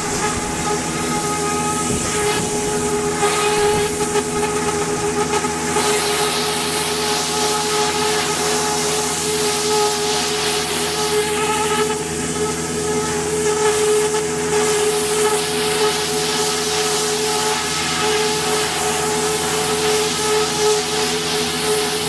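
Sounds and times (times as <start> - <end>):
high-pressure water jet hiss: 0.0 - 22.0
pressure washer droning: 0.0 - 22.0.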